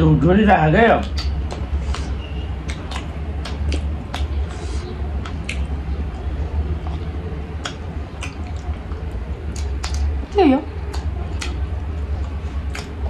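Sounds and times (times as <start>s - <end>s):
steady low hum: 0.0s - 13.0s
chewing and lip smacks: 1.0s - 13.0s.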